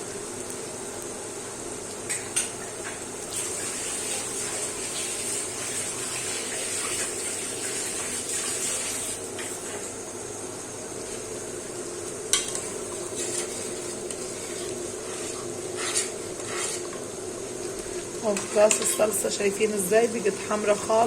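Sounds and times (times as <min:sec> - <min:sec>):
food hissing in a pot: 0:00.0 - 0:21.0.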